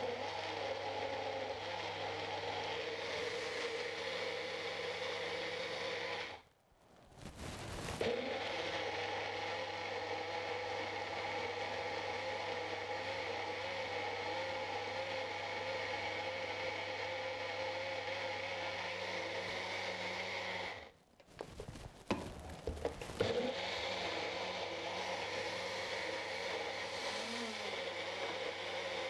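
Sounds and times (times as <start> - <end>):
blender motor running: 0.0 - 6.4, 8.0 - 20.9, 22.1 - 29.0.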